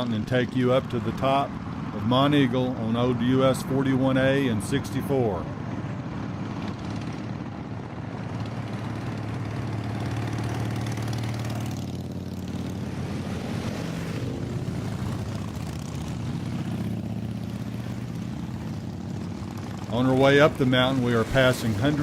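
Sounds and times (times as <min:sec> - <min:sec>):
motorcycles passing by: 0:00.0 - 0:22.0
vehicle engine drone: 0:00.0 - 0:22.0.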